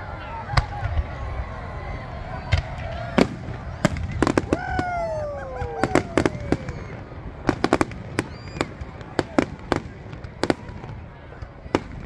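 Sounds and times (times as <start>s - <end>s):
fireworks crackling: 0.4s - 12.0s
fireworks bursting with bangs: 2.3s - 12.0s.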